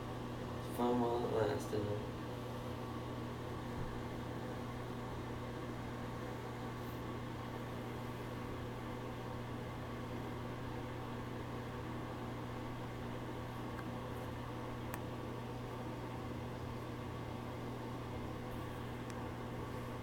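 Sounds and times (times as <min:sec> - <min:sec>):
low mechanical hum with hiss: 0:00.0 - 0:20.0.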